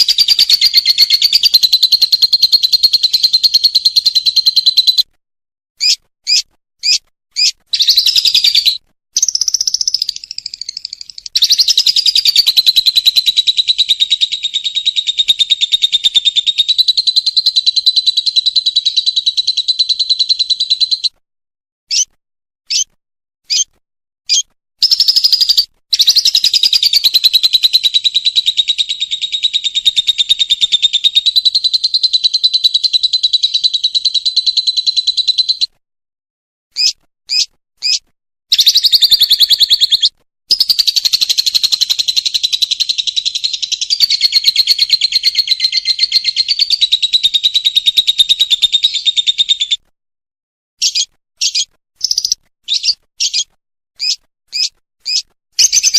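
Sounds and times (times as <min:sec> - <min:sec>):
lovebird rapid rattling trill: 0:00.0 - 0:05.0, 0:06.9 - 0:21.1, 0:24.8 - 0:35.7, 0:36.8 - 0:49.4, 0:50.8 - 0:53.4, 0:54.0 - 0:55.9
lovebird short high chirps: 0:00.0 - 0:05.1, 0:05.8 - 0:21.2, 0:21.9 - 0:22.9, 0:23.5 - 0:23.7, 0:24.3 - 0:35.7, 0:36.8 - 0:49.8, 0:50.8 - 0:55.9.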